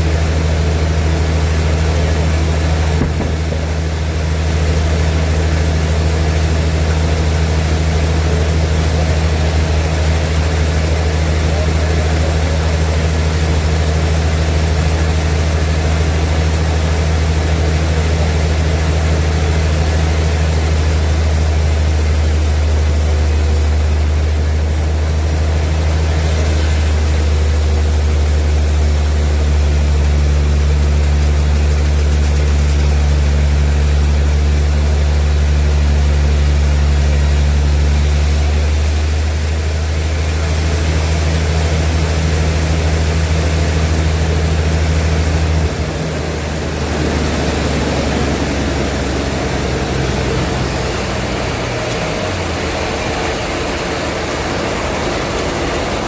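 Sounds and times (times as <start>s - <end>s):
sawmill machinery droning: 0.0s - 56.0s.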